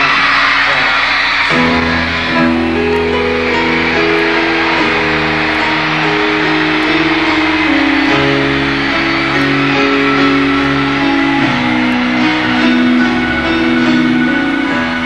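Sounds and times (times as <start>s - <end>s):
piano chords: 0.0s - 15.0s
rock band playing slow intro: 1.5s - 15.0s
sustained keyboard chords: 1.5s - 15.0s.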